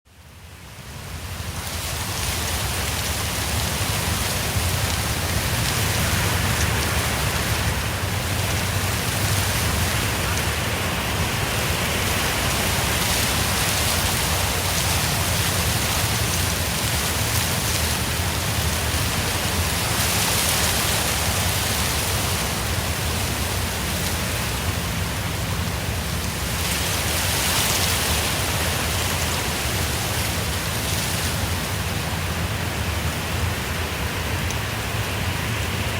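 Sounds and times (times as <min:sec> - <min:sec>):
wind rustling: 0:00.1 - 0:35.9
wind buffeting microphone: 0:00.6 - 0:35.9.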